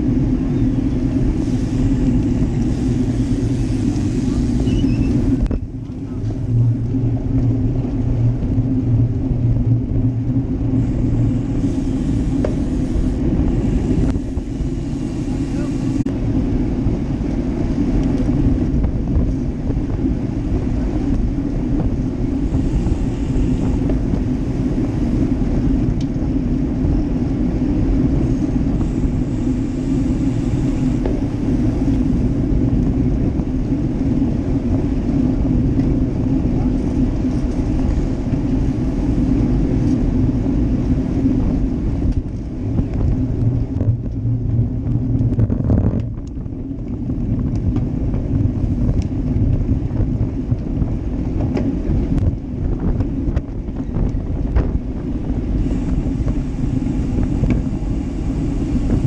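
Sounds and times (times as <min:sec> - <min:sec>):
bike tyres rolling on asphalt: 0:00.0 - 0:59.0
wind buffeting microphone: 0:00.0 - 0:59.0.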